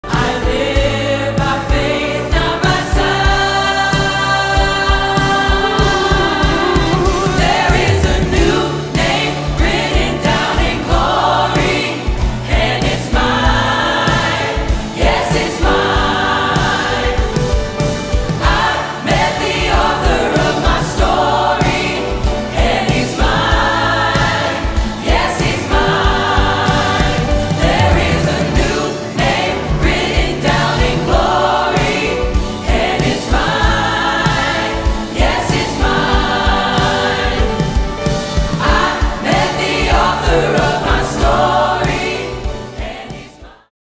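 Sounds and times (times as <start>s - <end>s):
accompaniment with steady beat: 0.0s - 43.4s
choir singing worship song: 0.0s - 43.7s.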